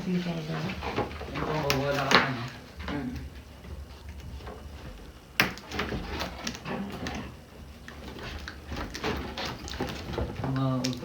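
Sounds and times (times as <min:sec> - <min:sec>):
wrapping crackling and scraping: 0:00.0 - 0:11.0.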